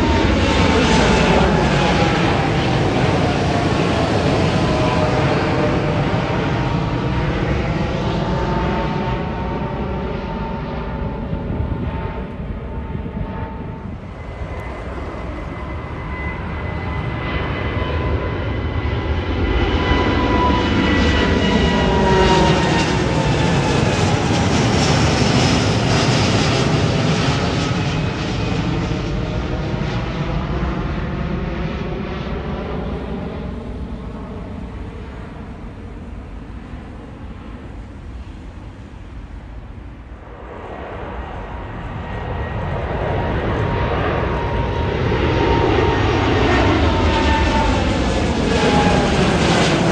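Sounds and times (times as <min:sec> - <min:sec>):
jet engines at takeoff: 0:00.0 - 0:49.9.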